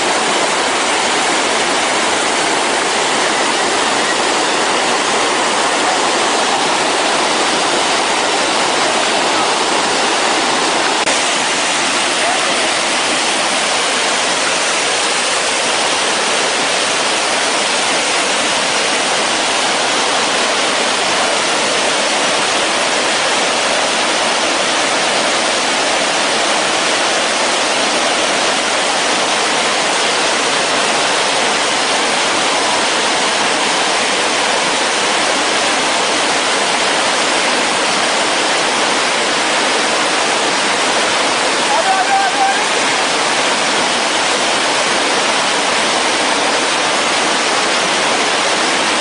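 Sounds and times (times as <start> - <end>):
stream rushing over boulders: 0.0 - 49.0.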